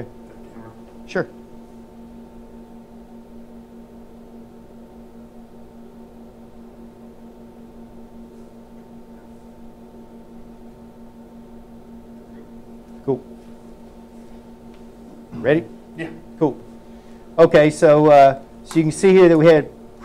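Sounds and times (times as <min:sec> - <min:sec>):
electrical hum with fixed tones: 0:00.0 - 0:20.0.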